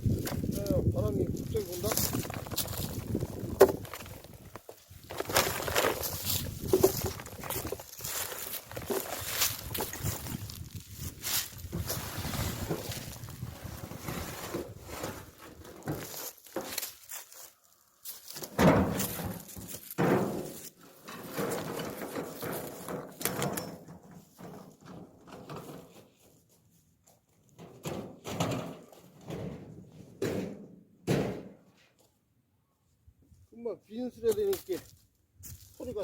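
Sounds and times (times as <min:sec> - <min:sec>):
wheelbarrow rattling and clanking: 0:00.0 - 0:17.0, 0:18.3 - 0:26.3, 0:27.5 - 0:31.5.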